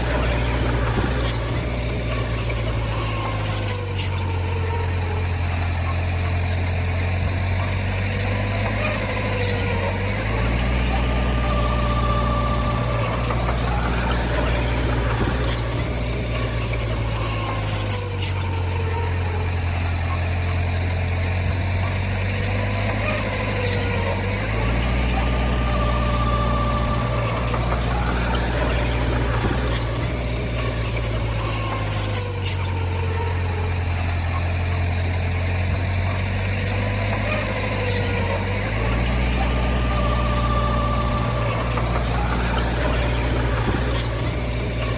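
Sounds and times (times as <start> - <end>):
heavy diesel engine droning: 0.0 - 44.9
wavering whine: 0.0 - 44.9.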